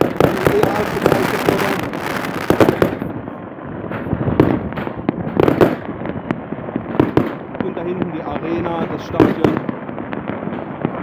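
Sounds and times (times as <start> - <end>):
firecracker bangs: 0.0 - 11.0
fireworks crackling: 0.0 - 11.0.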